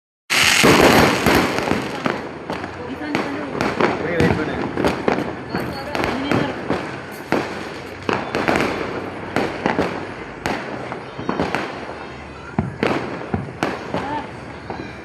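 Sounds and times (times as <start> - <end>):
fireworks and firecrackers banging: 0.3 - 15.0.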